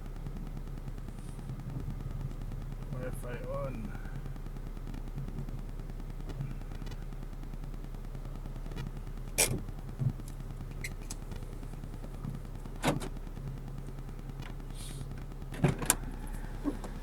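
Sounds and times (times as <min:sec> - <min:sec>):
steady low electrical hum: 0:00.0 - 0:17.0.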